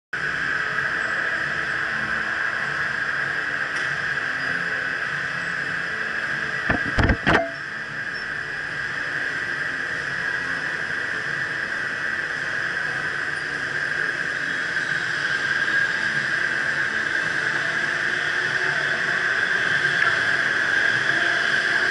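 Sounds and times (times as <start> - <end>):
electric go-kart high-pitched drone: 0.2 - 21.9.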